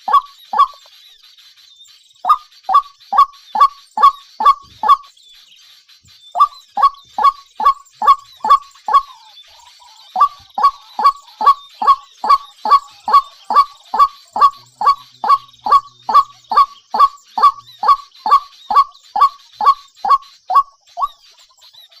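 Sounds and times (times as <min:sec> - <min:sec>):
bird calling with falling pitch: 0:00.0 - 0:00.9, 0:02.2 - 0:05.1, 0:06.3 - 0:22.0
faint small birds twittering: 0:00.0 - 0:22.0.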